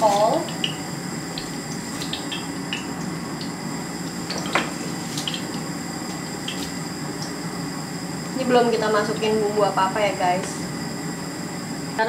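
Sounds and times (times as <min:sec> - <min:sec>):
stew boiling in a pot: 0:00.0 - 0:12.0.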